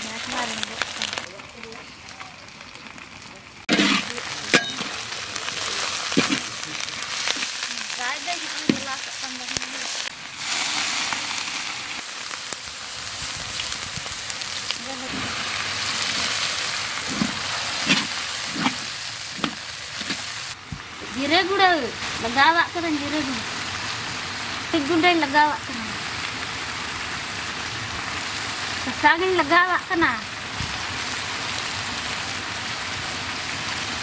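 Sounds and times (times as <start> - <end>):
onions sizzling in hot oil: 0.0 - 34.0.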